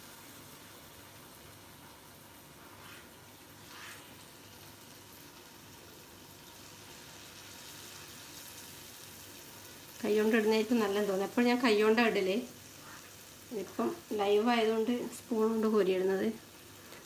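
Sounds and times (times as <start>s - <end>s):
dumplings sizzling in oil: 0.0s - 17.0s.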